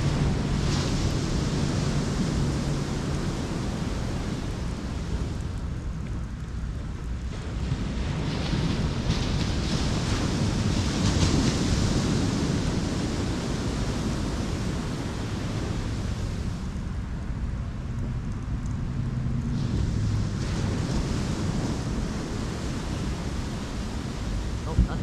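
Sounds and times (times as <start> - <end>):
ocean surf washing in: 0.0 - 17.6, 18.5 - 25.0
wind rumbling on microphone: 0.0 - 25.0.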